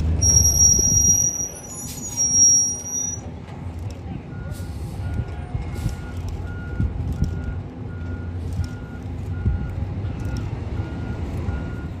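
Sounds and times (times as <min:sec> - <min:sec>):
reversing alarm beeping: 0:00.2 - 0:03.3, 0:04.3 - 0:12.0.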